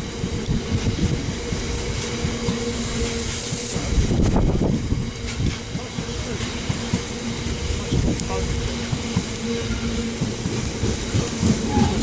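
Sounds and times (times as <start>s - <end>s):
train wheels clattering over joints: 0.0s - 12.0s.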